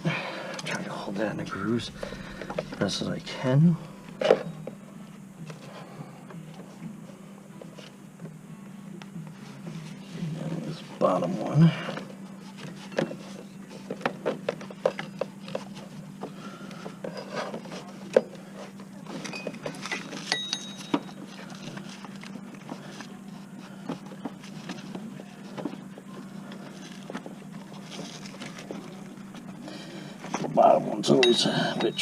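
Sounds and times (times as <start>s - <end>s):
steady low hum: 0.0s - 12.6s, 13.4s - 32.0s.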